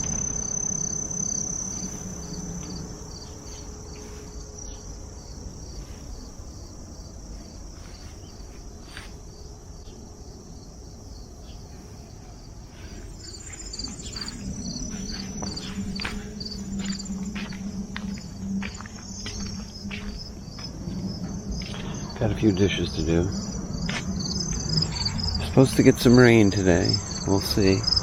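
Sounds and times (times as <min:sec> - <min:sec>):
insect trilling: 0:00.0 - 0:08.6, 0:09.3 - 0:28.0
crickets chirping: 0:00.0 - 0:28.0.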